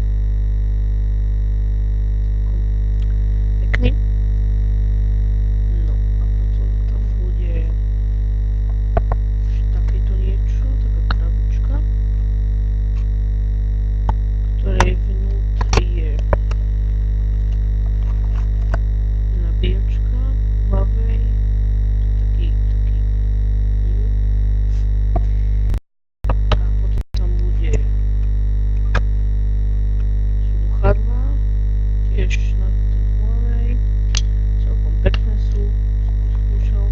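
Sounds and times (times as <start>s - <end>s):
electrical hum and buzz: 0.0s - 36.9s.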